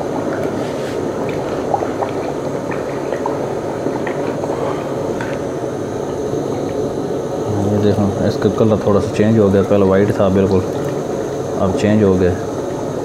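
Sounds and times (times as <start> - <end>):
ghee bubbling and sizzling in a pot: 0.0 - 13.0.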